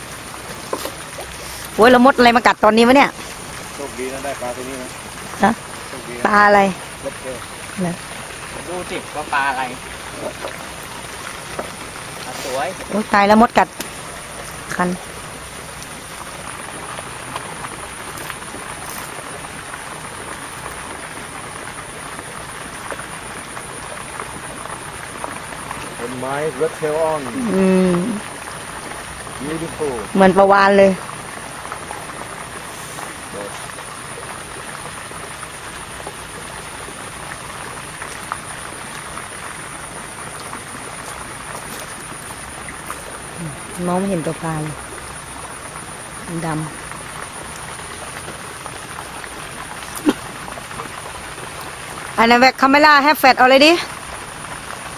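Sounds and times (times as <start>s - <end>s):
frogs calling: 0.0s - 54.9s.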